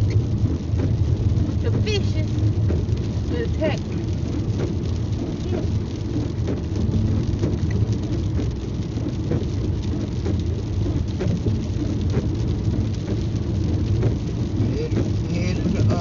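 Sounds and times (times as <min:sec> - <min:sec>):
rain hitting car windshield: 0:00.0 - 0:16.0
tyres rumbling on wet road: 0:00.0 - 0:16.0.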